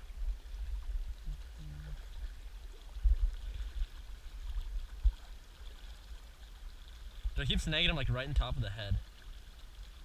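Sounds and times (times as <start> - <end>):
flowing river water: 0.0 - 10.0.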